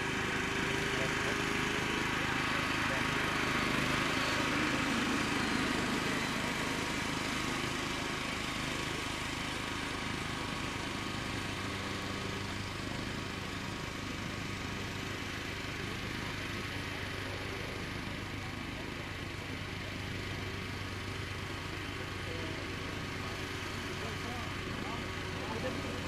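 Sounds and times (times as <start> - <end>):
electric ducted fan whining: 0.0 - 26.0.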